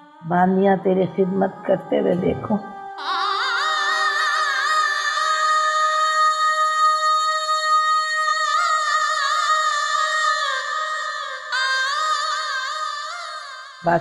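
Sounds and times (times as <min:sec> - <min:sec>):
woman singing wordless vibrato: 0:00.0 - 0:14.0.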